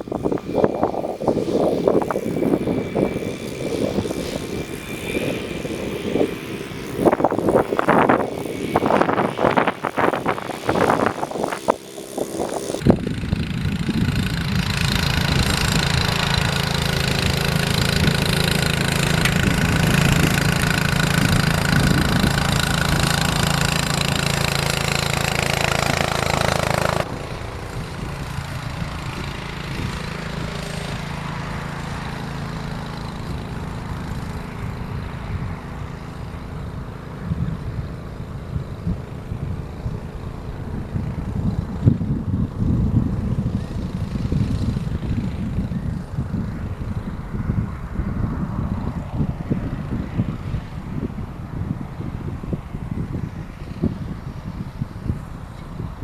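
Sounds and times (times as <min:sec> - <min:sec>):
engine running steadily: 0:00.0 - 0:56.0
gusty wind noise: 0:00.0 - 0:56.0.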